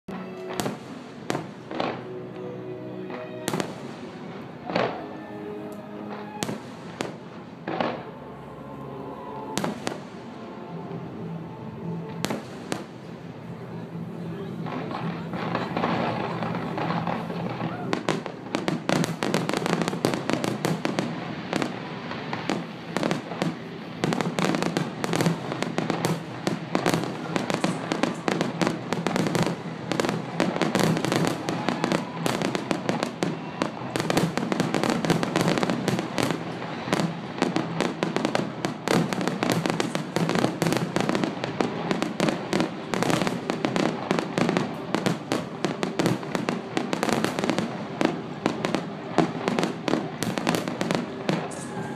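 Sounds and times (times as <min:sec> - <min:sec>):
fireworks bursting: 0:00.1 - 0:02.4, 0:03.0 - 0:51.9.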